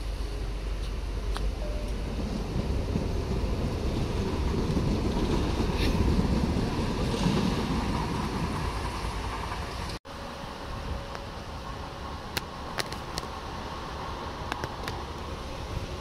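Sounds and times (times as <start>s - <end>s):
steady outdoor hum: 0.0s - 16.0s
train rumbling away: 0.0s - 16.0s.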